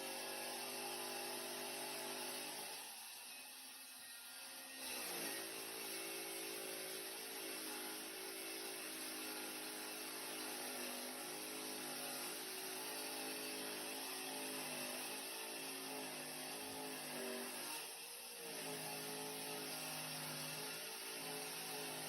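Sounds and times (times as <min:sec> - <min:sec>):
power tool motor whirring: 0:00.0 - 0:22.0.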